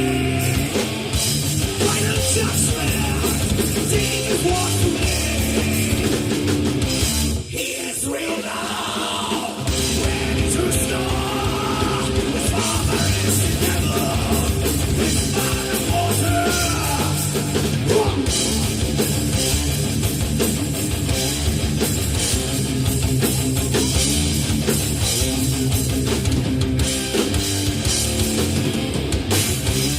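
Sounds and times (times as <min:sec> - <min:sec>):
bass guitar: 0:00.0 - 0:07.5, 0:09.6 - 0:29.9
distorted electric guitars: 0:00.0 - 0:29.9
pounding drum kit: 0:00.0 - 0:29.9.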